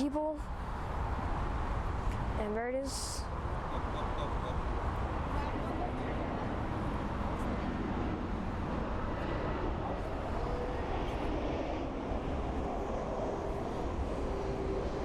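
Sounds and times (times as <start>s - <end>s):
faint engine whine: 0.0s - 15.0s
jet engine rumble: 0.4s - 15.0s.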